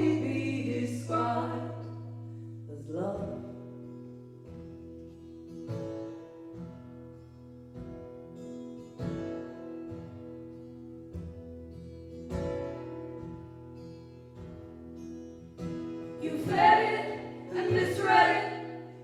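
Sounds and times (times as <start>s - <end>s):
acoustic guitar strumming chords: 3.4s - 19.0s.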